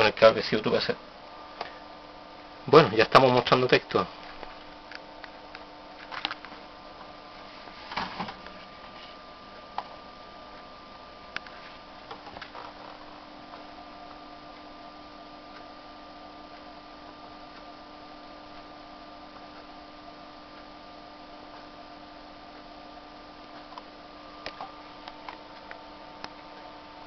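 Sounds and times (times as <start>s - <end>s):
electrical hum: 0.0s - 27.0s
faint high whine: 0.0s - 27.0s.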